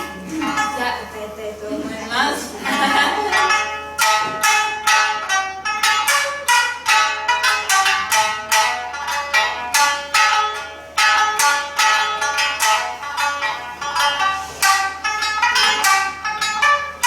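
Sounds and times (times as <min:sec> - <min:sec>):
shamisen plucked notes: 0:00.0 - 0:17.0.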